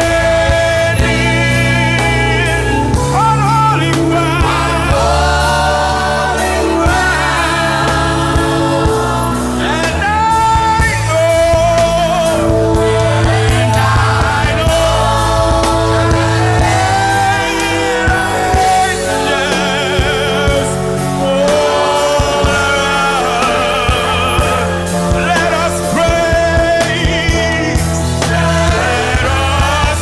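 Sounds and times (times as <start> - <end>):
low bass accompaniment: 0.0 - 30.0
voices singing gospel: 0.0 - 30.0.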